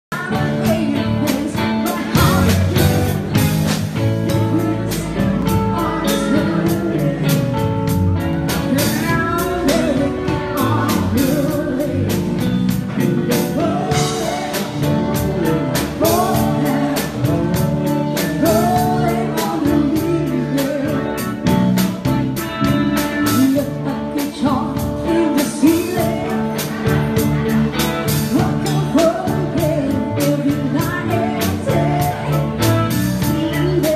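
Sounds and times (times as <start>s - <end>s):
woman singing into a microphone: 0.1s - 21.5s, 23.0s - 27.2s, 28.1s - 33.9s
drum kit beat: 0.1s - 33.9s
electric guitar: 0.1s - 33.9s.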